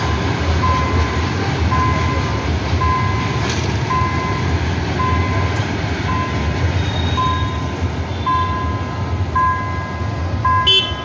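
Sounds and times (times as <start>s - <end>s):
goods train rumbling past: 0.0s - 10.8s
beeping tone: 0.6s - 10.6s.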